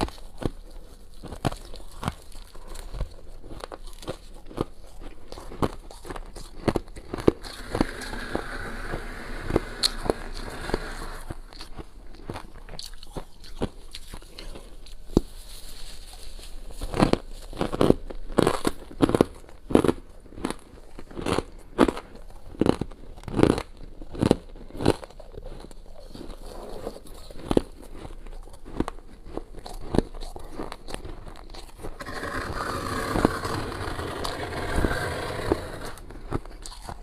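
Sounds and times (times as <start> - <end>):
ice being bitten and crunched: 0.0 - 15.4, 16.0 - 37.0.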